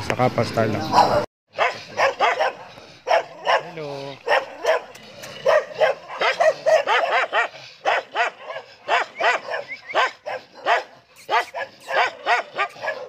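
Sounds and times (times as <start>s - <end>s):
dogs barking: 0.8s - 13.0s.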